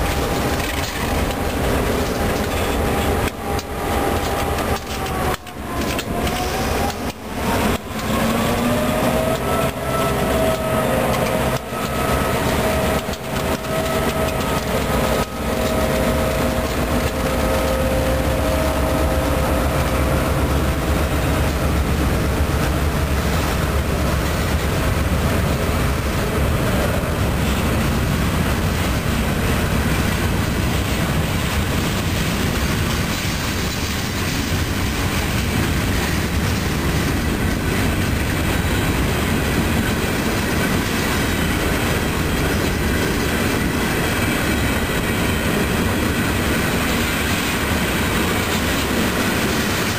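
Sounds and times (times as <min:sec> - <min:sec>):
freight cars rumbling and clattering: 0:00.0 - 0:49.9
locomotive engine whine: 0:00.0 - 0:49.9.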